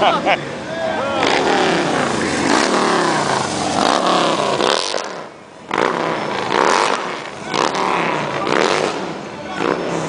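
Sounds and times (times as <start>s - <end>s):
motorcycle engines revving past: 0.9s - 10.0s.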